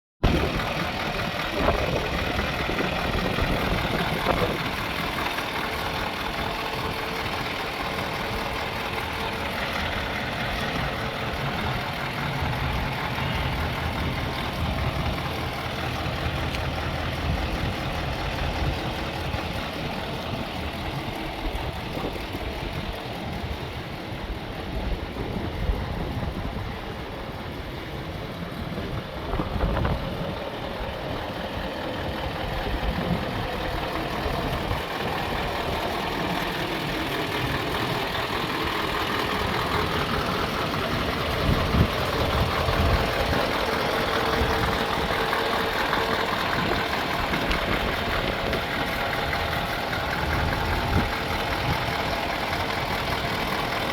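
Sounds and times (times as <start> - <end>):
diesel engine idling: 0.2 - 53.9.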